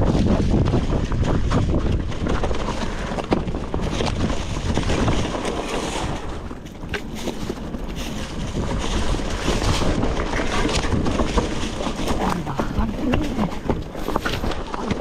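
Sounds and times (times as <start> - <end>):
mountain bike rattling: 0.0 - 15.0
tyres over dirt and stones: 0.0 - 15.0
wind on microphone: 0.0 - 15.0.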